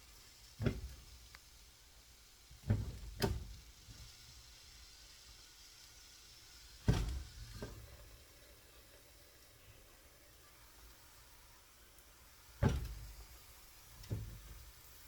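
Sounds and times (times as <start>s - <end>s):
omelette sizzling in a frying pan: 0.0s - 15.0s.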